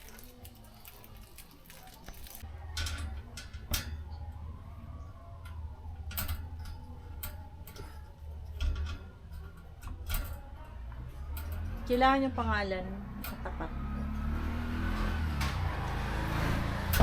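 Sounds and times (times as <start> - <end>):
ceiling fan parts clicking and knocking: 2.4 - 16.1.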